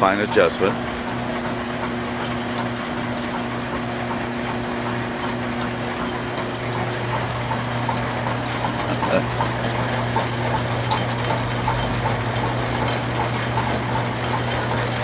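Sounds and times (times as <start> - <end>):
lathe and line shaft humming: 0.0 - 15.0.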